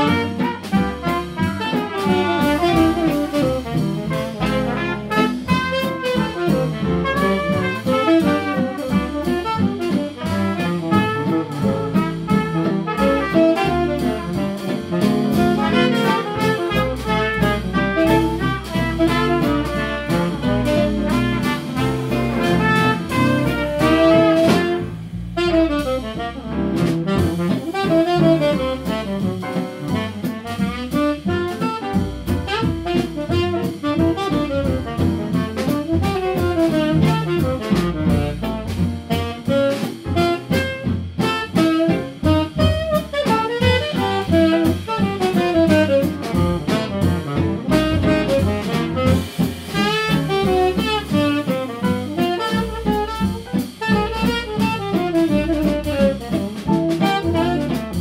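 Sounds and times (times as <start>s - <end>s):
saxophone solo: 0.0s - 58.0s
swing jazz band playing: 0.0s - 58.0s.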